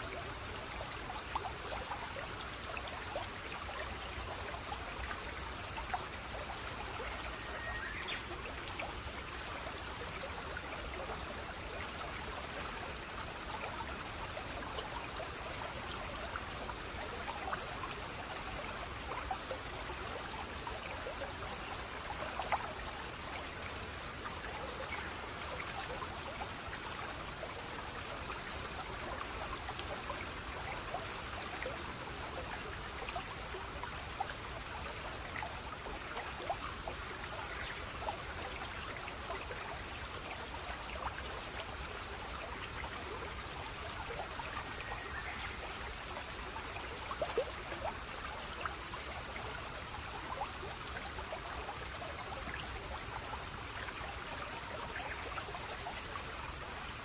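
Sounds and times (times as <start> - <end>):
water flowing and trickling: 0.0 - 57.0
water splashes and drips: 0.0 - 57.0.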